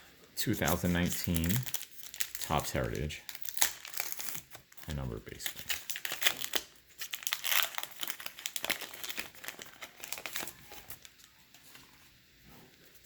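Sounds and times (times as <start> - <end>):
wrapper tearing and crinkling: 0.5 - 11.3.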